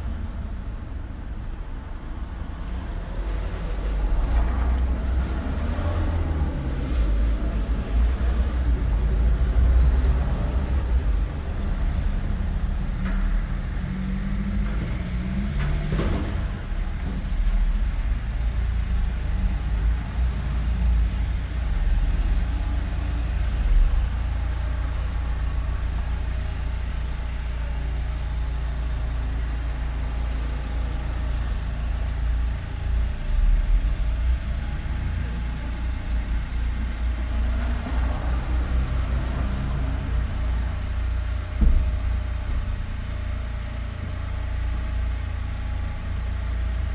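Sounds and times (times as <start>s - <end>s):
traffic rumble: 0.0s - 46.9s.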